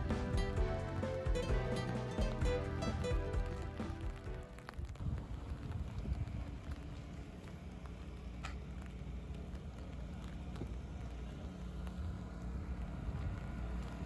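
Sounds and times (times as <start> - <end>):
vehicle rumble: 0.0 - 14.0.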